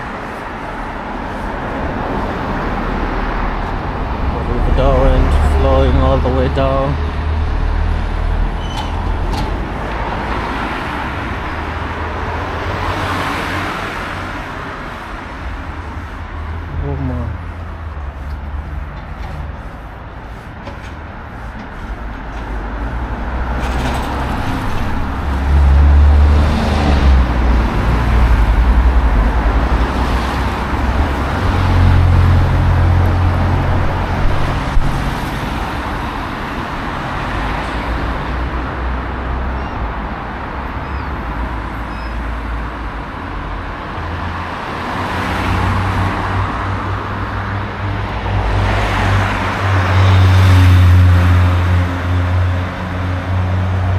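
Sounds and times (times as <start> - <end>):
tyres hissing on wet road: 0.0 - 8.4, 9.8 - 39.0, 44.0 - 53.9
low traffic rumble: 0.0 - 53.9.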